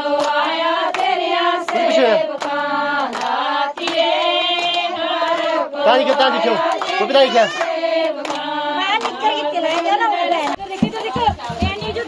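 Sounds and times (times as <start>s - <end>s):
group singing devotional song: 0.0s - 12.0s
rhythmic hand clapping: 0.0s - 12.0s.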